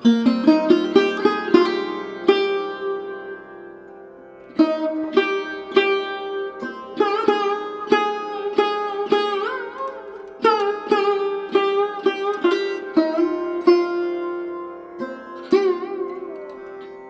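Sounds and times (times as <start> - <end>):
plucked string instrument melody: 0.0 - 17.0.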